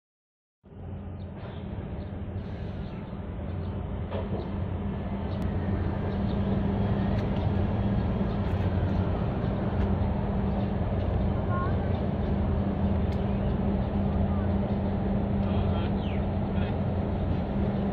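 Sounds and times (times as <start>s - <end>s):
ship engines droning: 0.7s - 17.9s.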